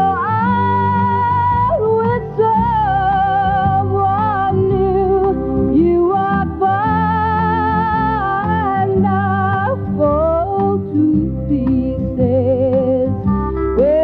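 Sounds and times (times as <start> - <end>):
band with bass and guitar: 0.0 - 14.0
person singing with vibrato: 0.0 - 14.0.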